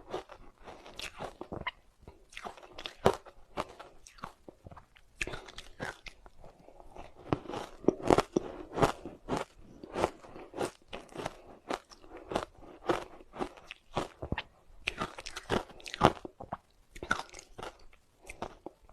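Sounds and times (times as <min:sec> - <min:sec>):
soft chewing: 0:00.0 - 0:18.9.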